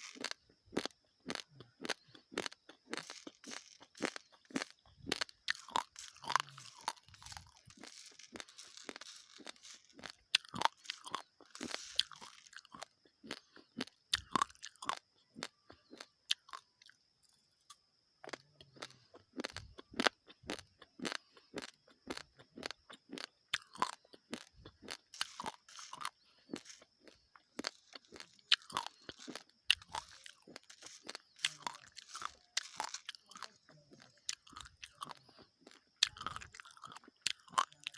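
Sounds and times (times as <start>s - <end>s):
chewing crunchy rice grains: 0.0s - 37.9s.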